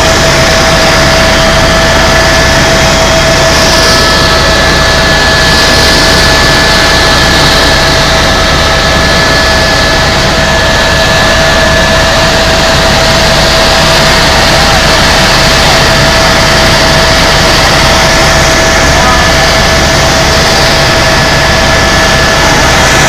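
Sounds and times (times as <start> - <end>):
helicopter engine and rotors: 0.0 - 23.0.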